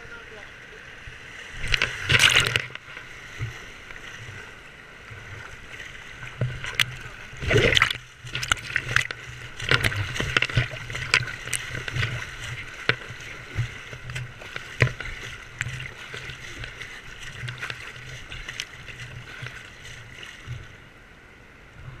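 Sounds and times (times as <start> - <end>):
whitewater rushing: 0.0 - 21.3
water splashing over camera: 1.5 - 20.9.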